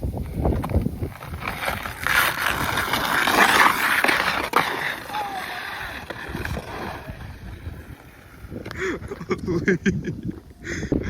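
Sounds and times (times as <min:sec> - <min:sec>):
skateboard wheels rolling: 0:00.0 - 0:11.0.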